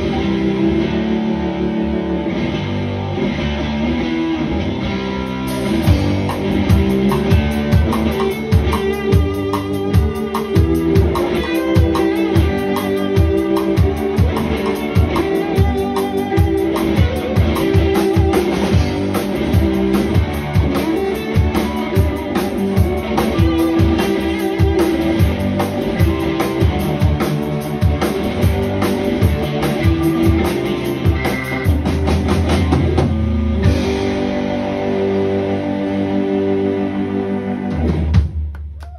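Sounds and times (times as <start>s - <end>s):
keyboard: 0.0s - 38.4s
electric guitar: 0.0s - 38.9s
drum kit beat: 5.3s - 35.4s, 37.7s - 38.9s.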